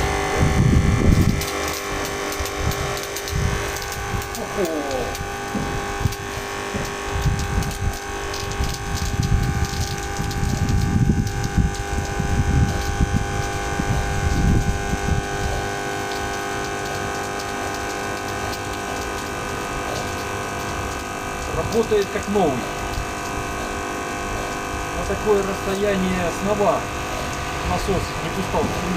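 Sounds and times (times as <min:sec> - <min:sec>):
low rumbling: 0:00.0 - 0:28.9
water pump electric buzz: 0:00.0 - 0:28.9.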